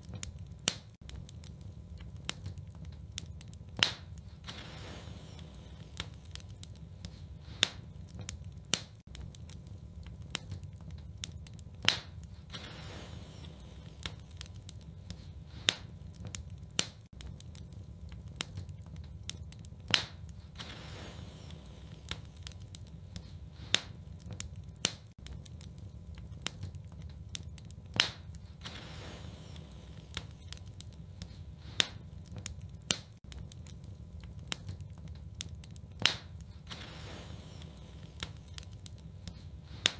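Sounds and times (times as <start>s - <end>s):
soft hissing of fire: 0.0s - 39.9s
wood fire crackling: 0.0s - 39.9s.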